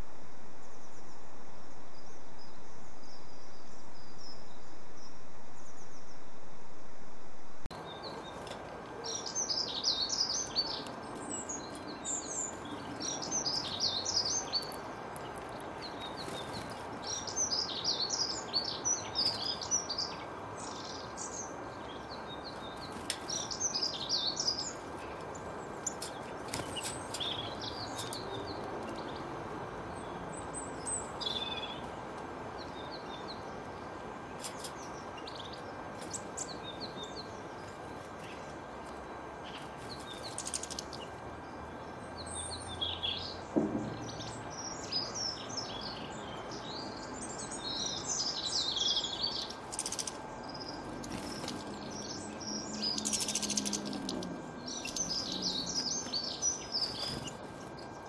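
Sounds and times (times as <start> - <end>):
faint continuous tone: 0.0 - 58.0
songbirds chirping: 7.6 - 58.0.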